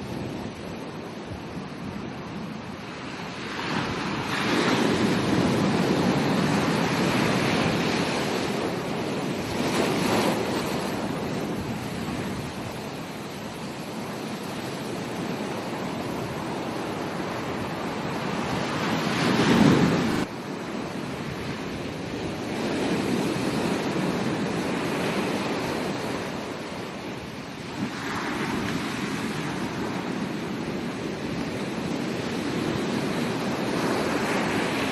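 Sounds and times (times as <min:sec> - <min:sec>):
ocean surf breaking on beach: 0:00.0 - 0:34.9.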